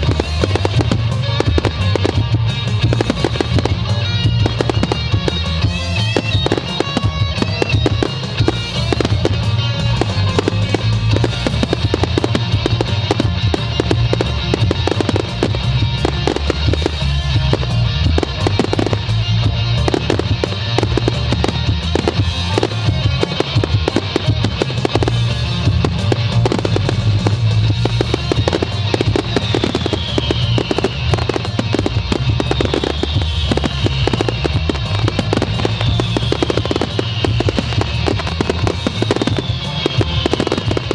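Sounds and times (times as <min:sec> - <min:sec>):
fireworks bangs and crackles: 0:00.0 - 0:40.9
music playing: 0:00.0 - 0:40.9.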